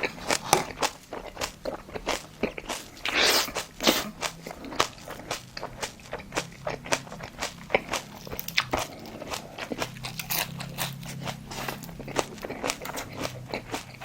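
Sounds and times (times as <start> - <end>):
chewing crunchy food: 0.0 - 14.0.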